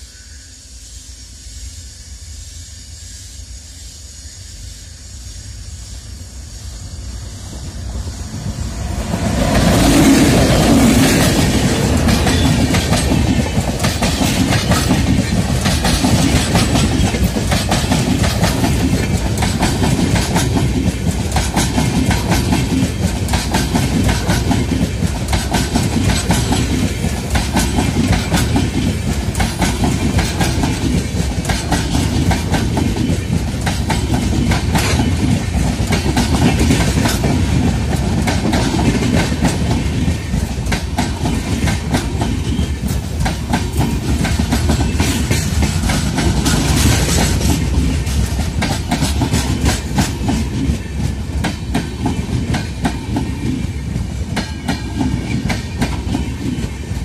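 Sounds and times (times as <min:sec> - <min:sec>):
train approaching with low rumble: 0:00.0 - 0:57.0
wheels clickety-clack over rail joints: 0:07.4 - 0:57.0.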